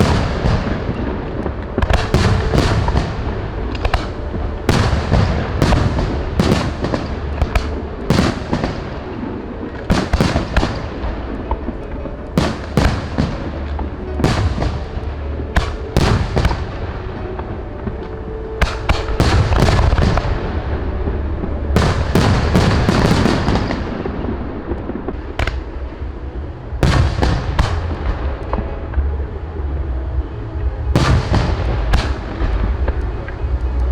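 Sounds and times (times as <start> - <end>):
continuous low rumble: 0.0 - 33.9
firework bangs and crackles: 0.0 - 33.9.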